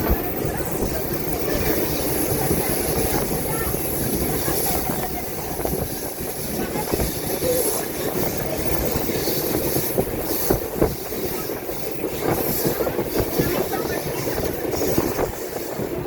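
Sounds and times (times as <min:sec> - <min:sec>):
steady rumble: 0:00.0 - 0:16.0.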